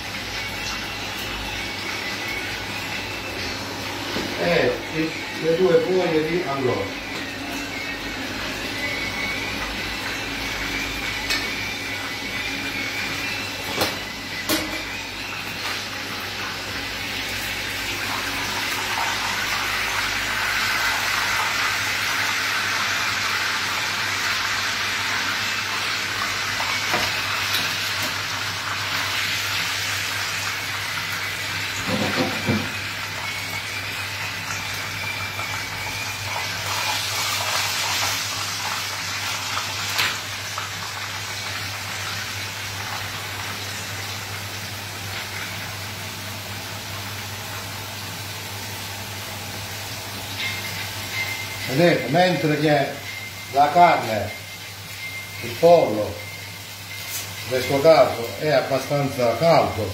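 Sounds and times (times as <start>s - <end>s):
oil sizzling in frying pans: 0.0s - 59.9s.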